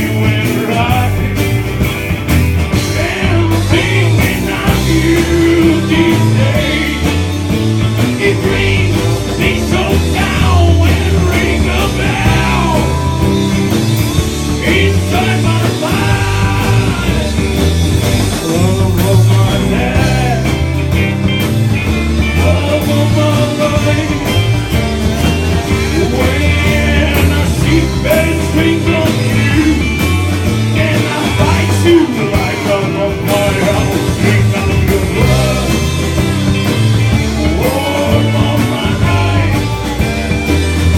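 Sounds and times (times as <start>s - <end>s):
person singing: 0.0s - 1.6s, 2.7s - 17.6s, 18.2s - 20.8s, 22.3s - 40.1s
live country rock band: 0.0s - 40.9s.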